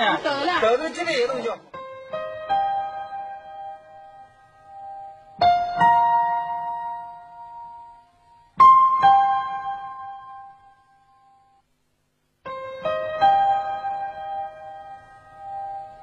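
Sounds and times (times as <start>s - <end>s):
slow piano notes: 1.7s - 11.7s, 12.4s - 16.0s.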